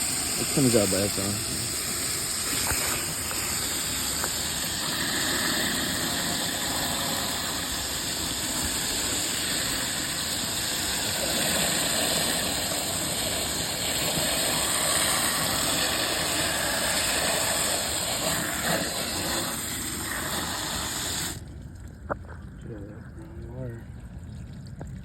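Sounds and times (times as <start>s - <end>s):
machine running with hiss: 0.0s - 21.4s.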